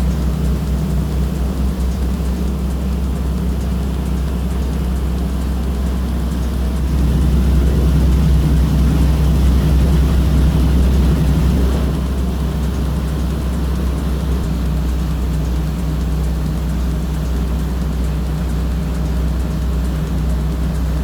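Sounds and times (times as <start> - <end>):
ferry engines droning: 0.0 - 21.0.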